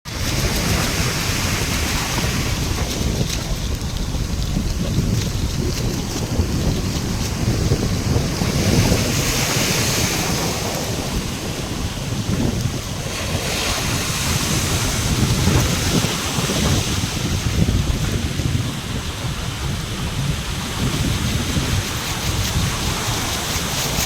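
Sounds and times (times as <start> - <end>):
surf crashing: 0.1 - 24.0
wind buffeting microphone: 0.1 - 24.0.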